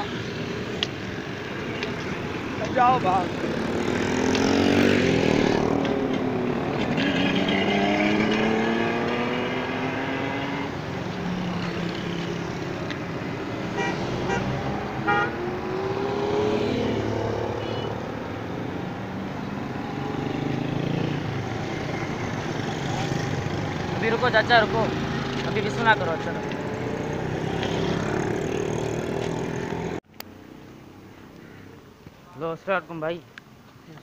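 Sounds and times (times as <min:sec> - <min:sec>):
motorcycle engines passing: 0:00.0 - 0:33.2.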